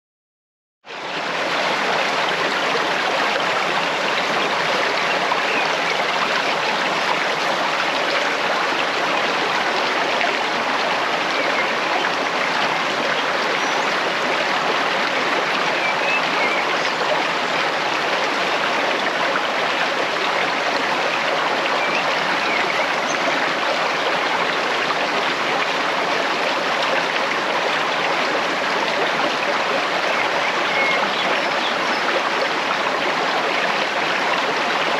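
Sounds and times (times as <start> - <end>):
stream water rushing: 0.9 - 34.9.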